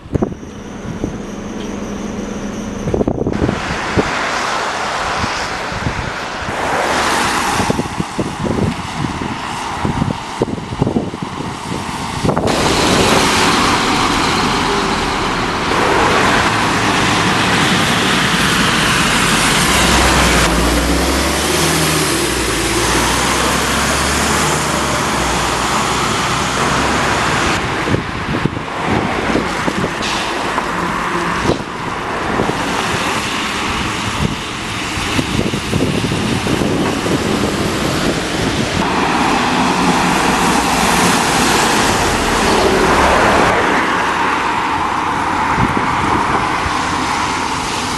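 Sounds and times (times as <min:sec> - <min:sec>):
deeper rumble: 0:00.0 - 0:06.8, 0:10.7 - 0:45.0
traffic on wet road: 0:00.0 - 0:47.9.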